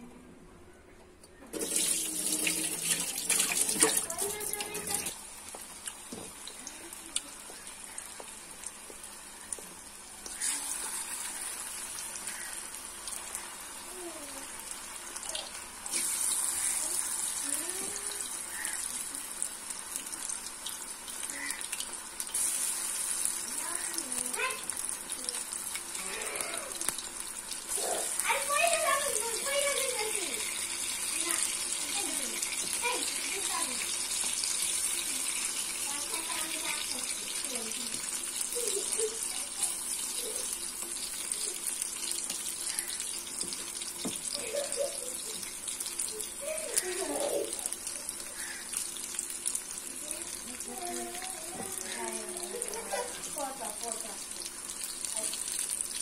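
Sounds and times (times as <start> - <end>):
oil sizzling with frying batter: 1.4 - 56.0.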